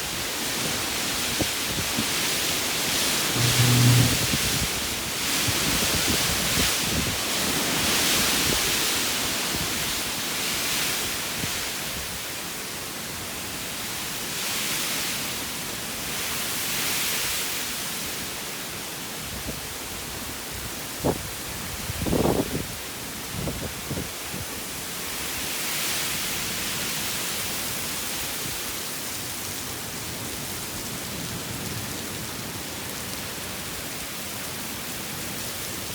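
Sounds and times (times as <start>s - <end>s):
rain: 0.0s - 35.9s
wind: 0.0s - 35.9s.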